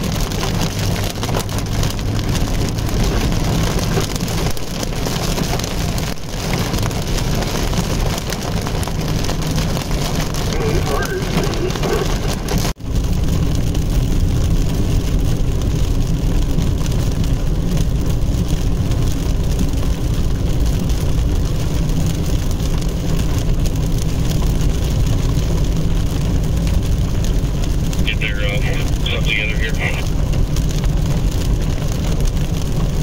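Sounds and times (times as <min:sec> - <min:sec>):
rain hitting windshield: 0:00.0 - 0:33.0
tyres on wet road: 0:00.0 - 0:33.0.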